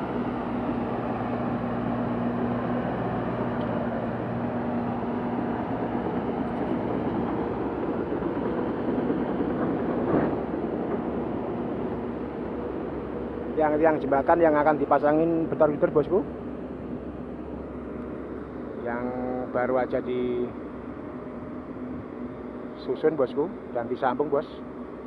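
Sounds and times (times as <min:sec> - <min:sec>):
heavy machinery diesel engines: 0:00.0 - 0:25.0.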